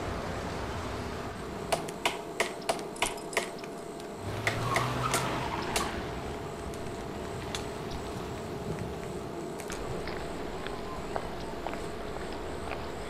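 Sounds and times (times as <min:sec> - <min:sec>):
low hum: 0:00.0 - 0:13.0
street background noise: 0:00.0 - 0:13.0.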